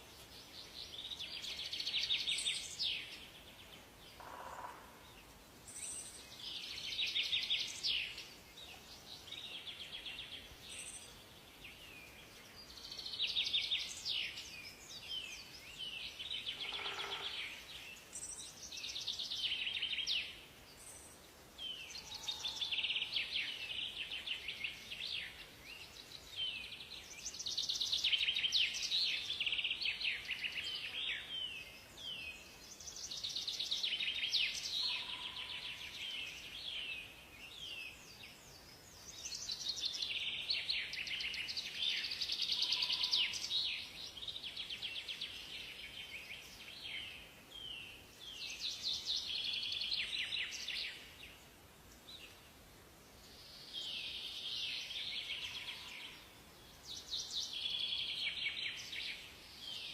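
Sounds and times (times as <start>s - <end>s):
faint background hiss: 0.0s - 59.9s
songbirds trilling and chirping: 0.0s - 59.9s.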